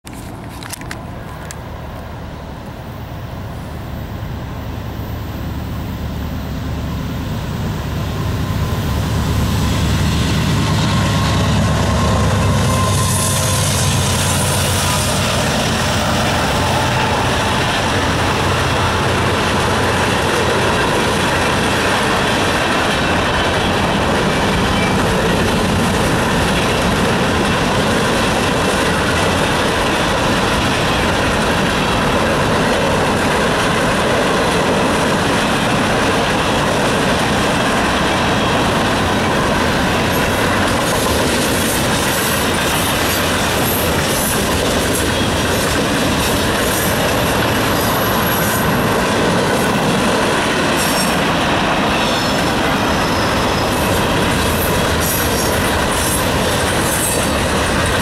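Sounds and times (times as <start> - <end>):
diesel locomotive rumble: 0.1 - 58.0
freight cars rolling on rails: 0.1 - 58.0.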